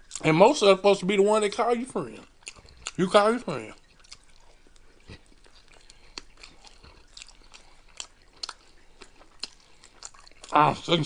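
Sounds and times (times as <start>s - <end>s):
chewing crunchy chips: 0.0s - 0.4s, 2.0s - 11.0s.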